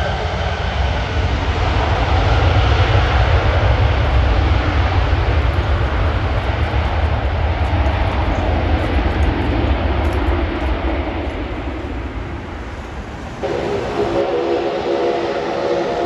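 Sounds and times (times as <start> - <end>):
airplane engine rumbling: 0.0 - 16.0.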